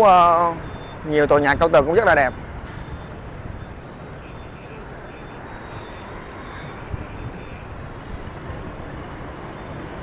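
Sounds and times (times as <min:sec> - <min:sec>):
street traffic drone: 0:00.0 - 0:10.0.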